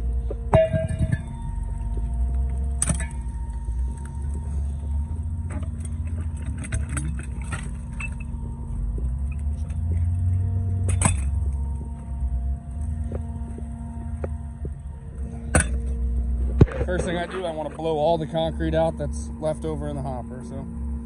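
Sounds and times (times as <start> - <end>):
pump engine humming: 0.0 - 21.0.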